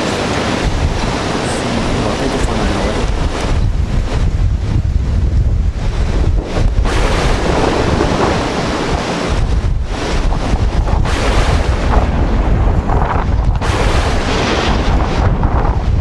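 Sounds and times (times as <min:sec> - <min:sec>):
storm surf breaking on shore: 0:00.0 - 0:16.0
wind buffeting microphone: 0:00.0 - 0:16.0.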